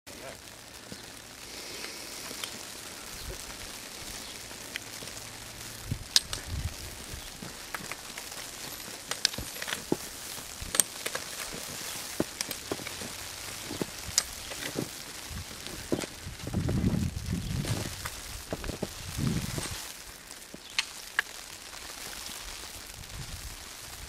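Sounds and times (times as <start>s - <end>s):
faint hiss: 0.1s - 24.0s
wet snow landing in soft ticks: 0.6s - 24.0s.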